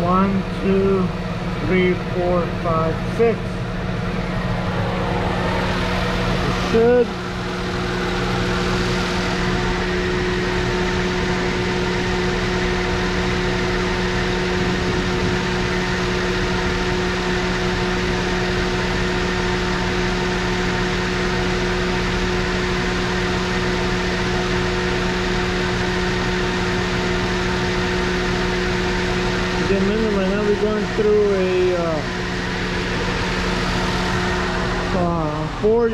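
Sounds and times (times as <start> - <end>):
car engine idling: 0.0 - 18.4, 24.7 - 35.9.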